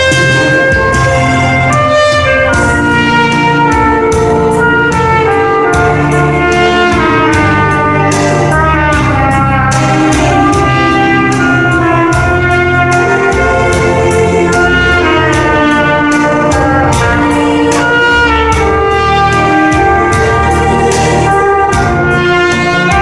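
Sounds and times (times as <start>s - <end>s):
bass: 0.0s - 23.0s
steady drum beat: 0.0s - 23.0s
trumpet ballad melody: 0.0s - 23.0s.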